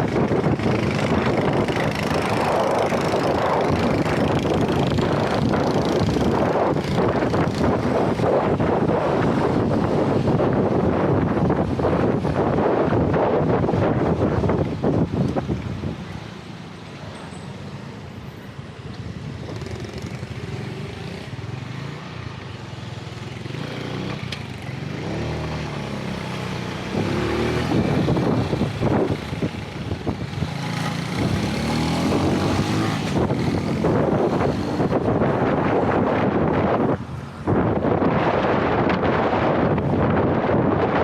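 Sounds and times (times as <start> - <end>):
car engines: 0.0 - 41.0
motorcycle engines: 0.0 - 41.0.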